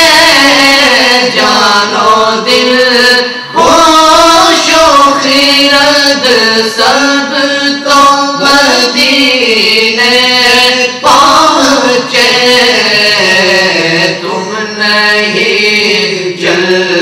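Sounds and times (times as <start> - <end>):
men singing unaccompanied: 0.0 - 17.0.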